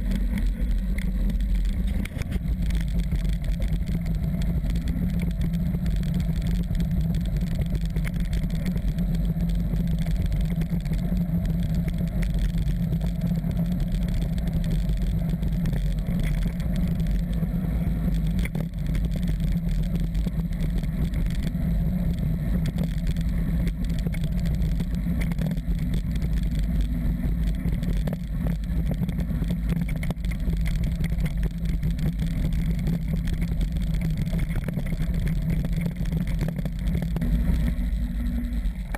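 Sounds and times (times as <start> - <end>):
motorcycle engine running: 0.0 - 38.9
wind rumbling on microphone: 0.0 - 38.9.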